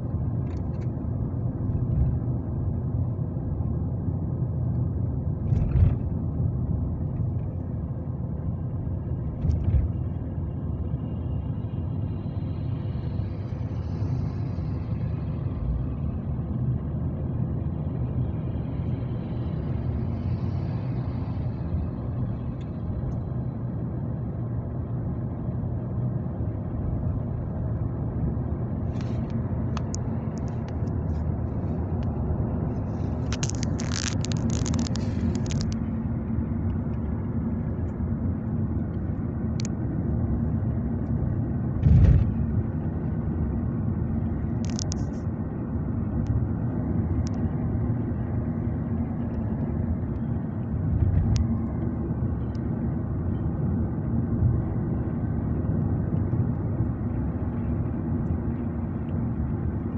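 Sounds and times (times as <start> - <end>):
vehicle road and engine rumble: 0.0 - 59.9.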